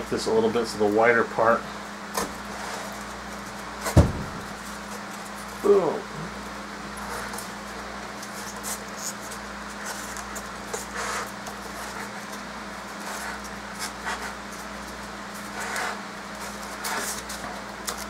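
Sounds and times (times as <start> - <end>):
electric fan humming: 0.0 - 18.0
foam insulation rustling: 0.0 - 18.0.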